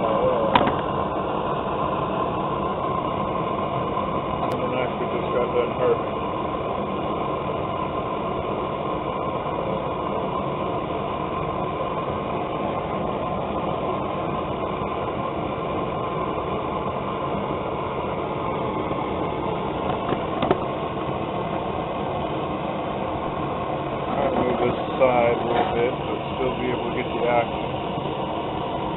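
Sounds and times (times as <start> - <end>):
propane burner hissing: 0.0 - 28.9.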